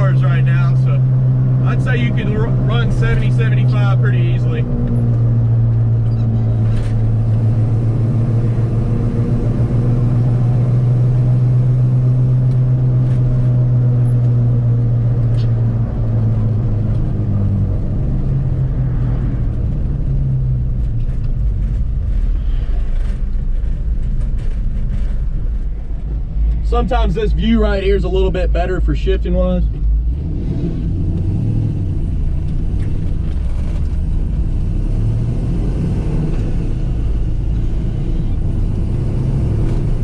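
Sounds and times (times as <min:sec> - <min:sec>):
engine low drone: 0:00.0 - 0:40.0.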